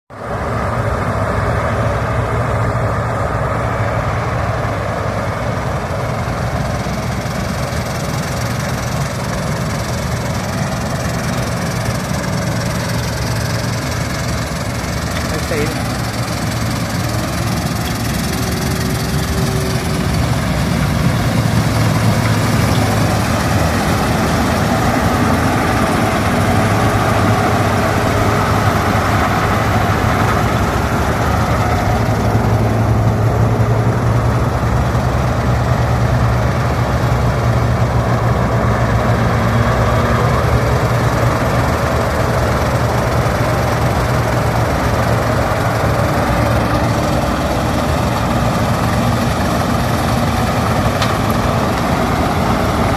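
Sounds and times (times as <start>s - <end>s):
combine harvester engine drone: 0.1s - 52.9s
dense machinery noise: 0.1s - 52.9s.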